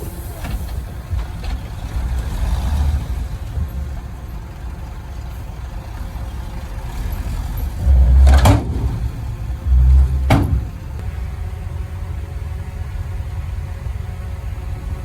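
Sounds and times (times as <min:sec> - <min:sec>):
diesel machinery engine rumbling: 0:00.0 - 0:15.0.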